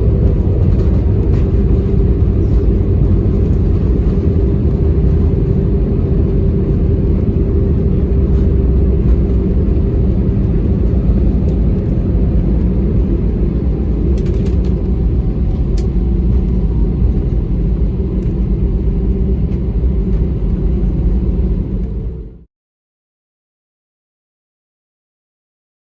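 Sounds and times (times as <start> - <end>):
airplane engines and airflow rumble: 0.0 - 22.5.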